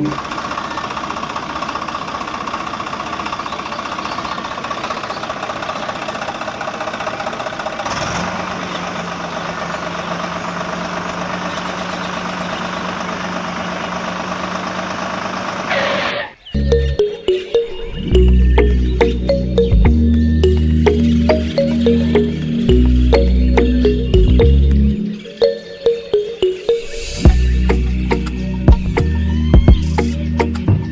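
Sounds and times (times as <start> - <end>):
tractor engine running: 0.0 - 25.2, 27.2 - 30.9.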